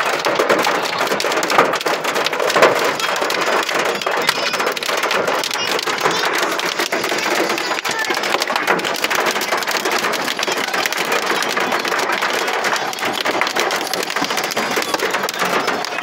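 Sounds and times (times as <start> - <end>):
hail and rain on car roof: 0.0 - 16.0.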